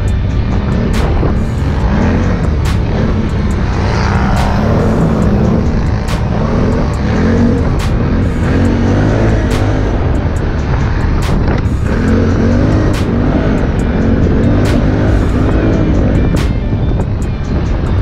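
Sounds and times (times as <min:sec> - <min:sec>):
atv engine running: 0:00.0 - 0:18.0
music with a regular beat: 0:00.0 - 0:18.0.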